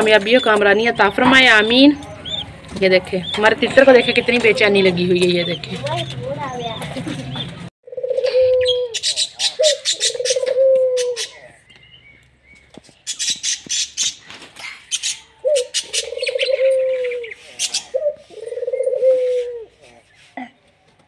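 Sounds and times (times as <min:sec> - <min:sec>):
doves cooing: 0:00.0 - 0:12.0, 0:14.2 - 0:20.8.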